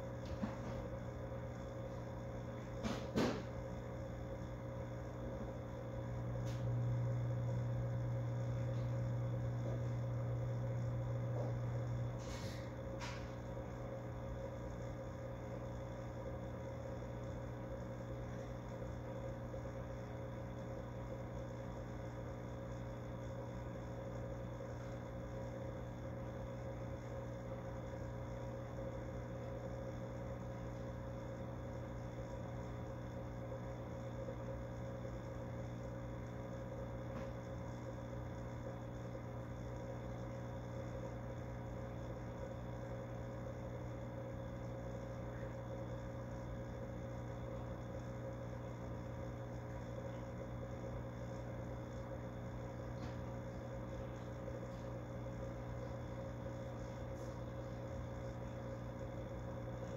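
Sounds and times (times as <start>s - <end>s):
aquarium pump humming: 0.0s - 59.9s.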